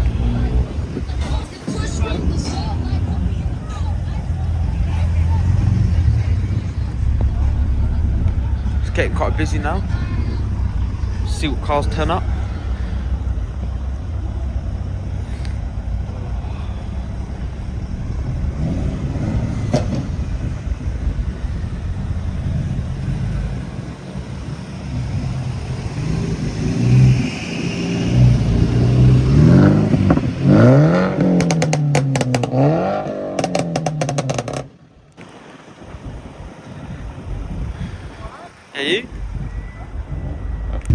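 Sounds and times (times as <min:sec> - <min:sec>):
car engine revving: 0:00.0 - 0:40.9
cars passing: 0:00.0 - 0:40.9.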